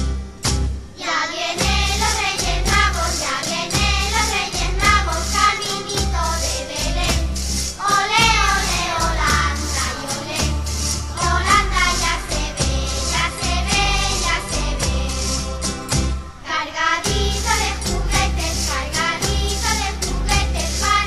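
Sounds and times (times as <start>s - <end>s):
song with steady beat: 1.6s - 21.0s.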